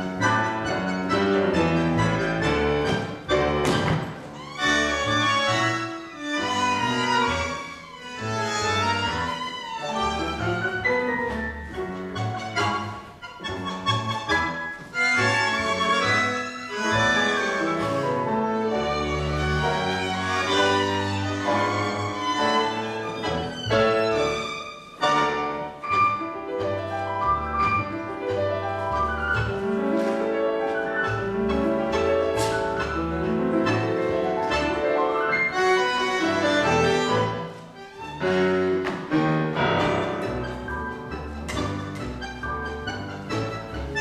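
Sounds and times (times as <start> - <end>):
tango orchestra playing: 0.0 - 44.0.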